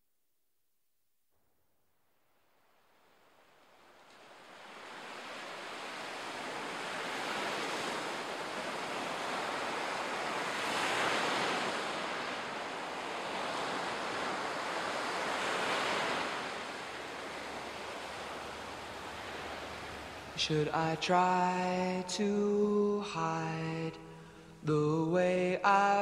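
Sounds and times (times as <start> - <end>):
ocean surf washing on beach: 2.9 - 26.0.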